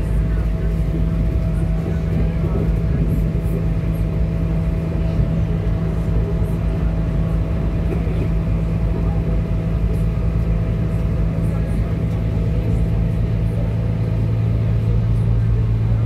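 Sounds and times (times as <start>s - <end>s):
train interior running drone: 0.0s - 16.0s.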